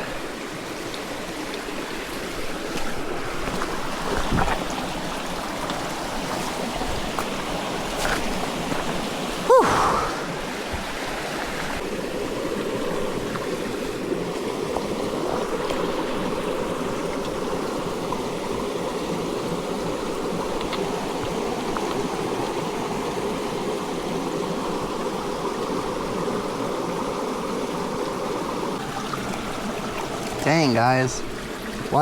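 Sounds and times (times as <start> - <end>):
forest stream rushing: 0.0 - 32.0.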